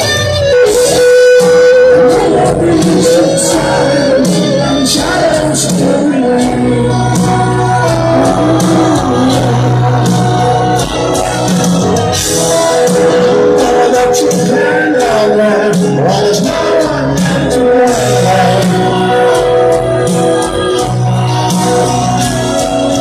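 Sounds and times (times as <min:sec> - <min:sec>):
person singing lead vocal: 0:00.0 - 0:23.0.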